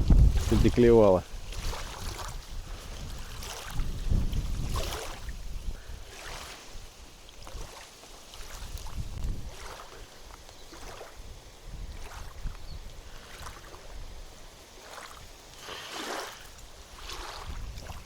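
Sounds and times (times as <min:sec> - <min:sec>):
wind buffeting microphone: 0:00.0 - 0:07.7, 0:08.4 - 0:14.4, 0:16.7 - 0:18.0
water splashing around boat: 0:00.0 - 0:18.0.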